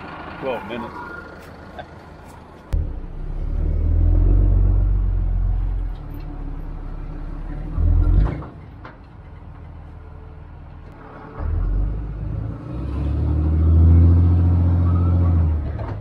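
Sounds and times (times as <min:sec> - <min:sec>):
pickup engine rumbling: 0:00.0 - 0:16.0.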